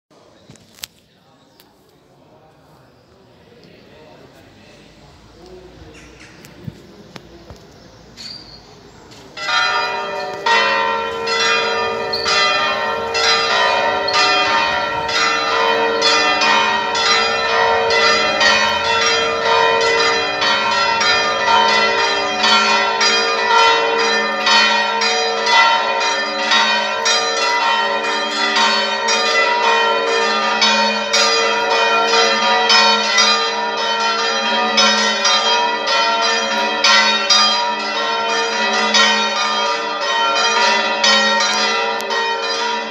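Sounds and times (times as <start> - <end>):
church bells pealing: 8.2 - 42.9.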